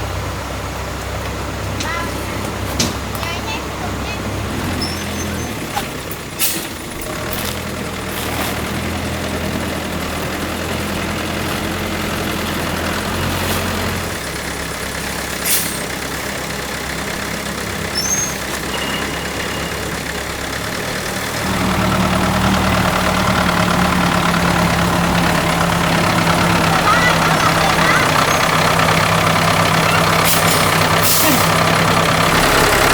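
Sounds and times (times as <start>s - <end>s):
small engine running: 3.3s - 32.9s.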